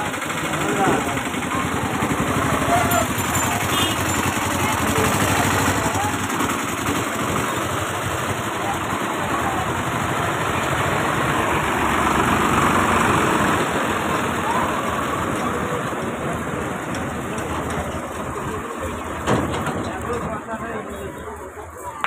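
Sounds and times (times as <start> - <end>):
road noise: 0.0 - 22.0
vehicle engine running: 0.0 - 22.0.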